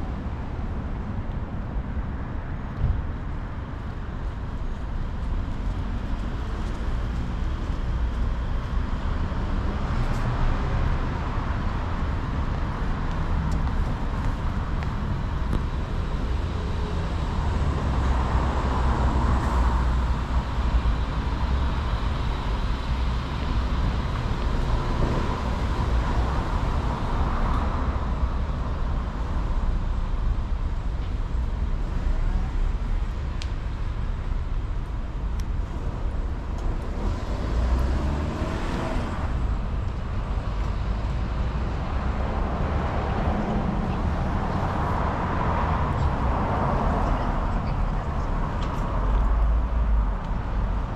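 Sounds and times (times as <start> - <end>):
rumble of passing cars: 0.0 - 50.9.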